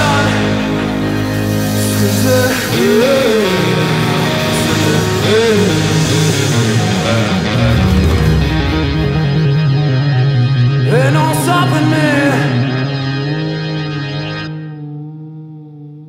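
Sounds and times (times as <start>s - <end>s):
person singing: 0.0s - 9.9s, 10.8s - 13.4s, 14.5s - 16.0s
rock guitar: 0.0s - 15.0s.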